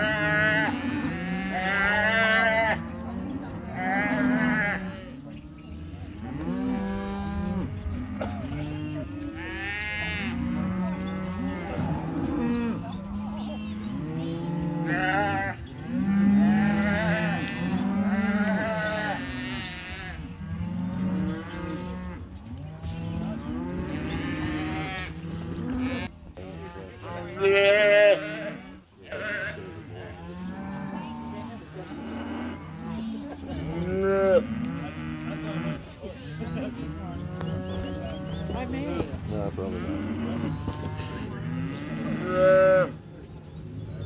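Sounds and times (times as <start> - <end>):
calves bawling: 0.0 - 43.2.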